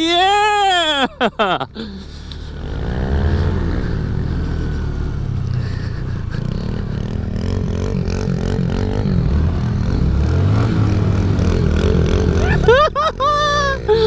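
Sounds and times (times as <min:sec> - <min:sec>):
mini bike engine revving: 0:02.0 - 0:14.0.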